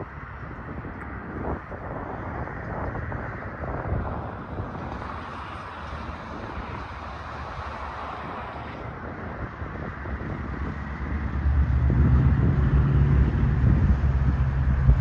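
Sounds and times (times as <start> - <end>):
aircraft engine rumbling: 0.0 - 15.0.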